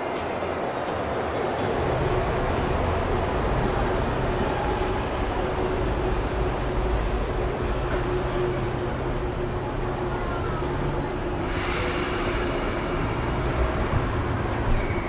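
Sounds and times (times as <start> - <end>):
subway train rumble and hum: 0.0 - 15.0.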